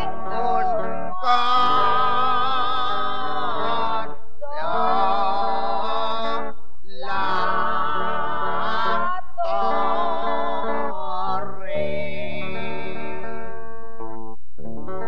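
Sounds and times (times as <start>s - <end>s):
solo voice singing with vibrato: 0.0s - 13.6s.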